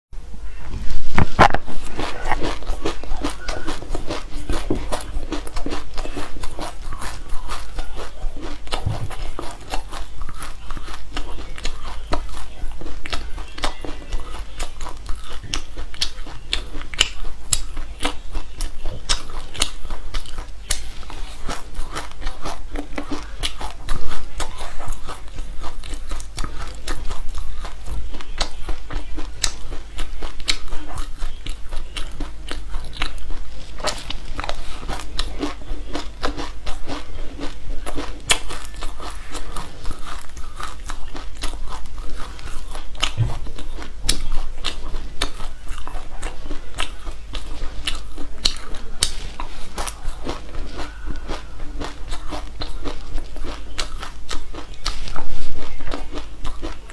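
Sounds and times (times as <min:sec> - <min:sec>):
steady low hum: 0:00.2 - 0:56.9
crunching and chewing seeds: 0:01.0 - 0:56.9.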